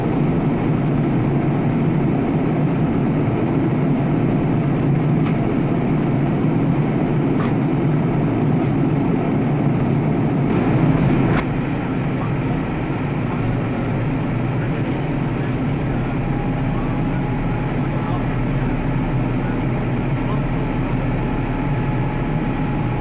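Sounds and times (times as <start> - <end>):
jet airliner rumble: 0.0 - 23.0.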